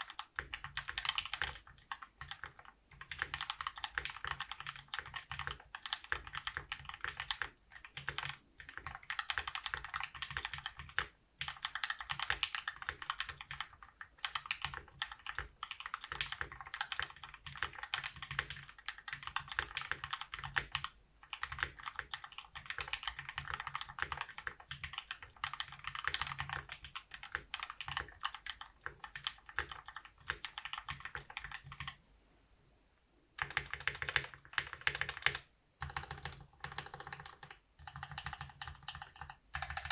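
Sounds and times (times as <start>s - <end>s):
mechanical keyboard typing: 0.0s - 32.0s, 33.4s - 39.9s.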